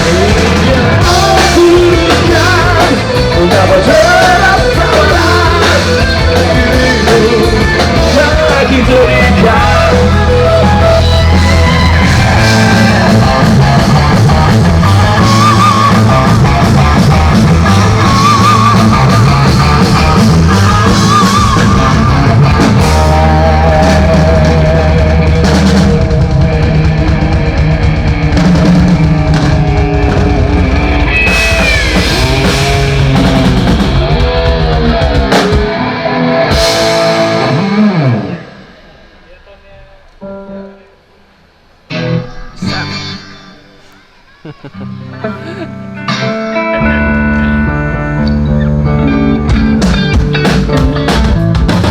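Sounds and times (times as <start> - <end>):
bass guitar: 0.0 - 40.7, 41.5 - 51.9
electric guitar with vibrato: 0.0 - 41.1, 41.9 - 51.9
drum kit: 0.0 - 47.2, 49.1 - 51.9.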